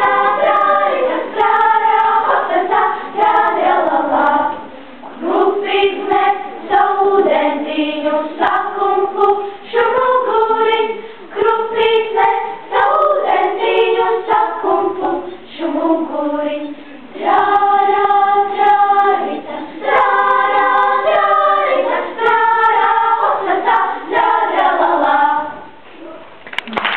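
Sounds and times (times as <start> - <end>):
children's choir singing: 0.0 - 25.9.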